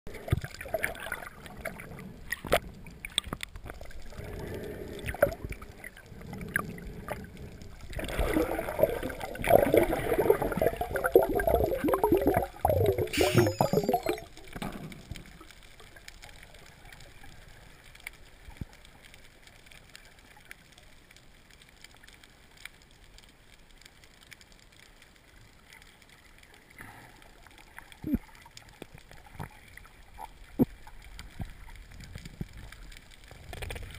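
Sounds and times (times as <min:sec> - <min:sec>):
underwater gurgling and bubbling: 0:00.1 - 0:20.5, 0:26.1 - 0:33.9
faint steady crackle: 0:00.1 - 0:33.9.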